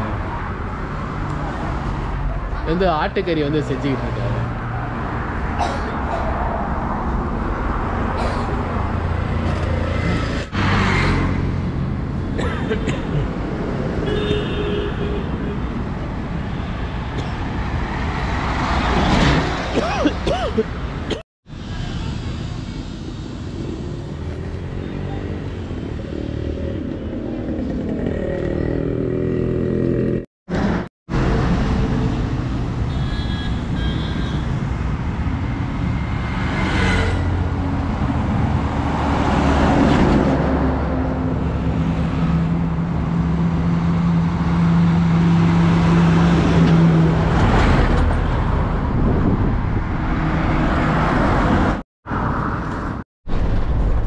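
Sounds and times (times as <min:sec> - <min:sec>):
highway traffic passing: 0:00.0 - 0:54.0.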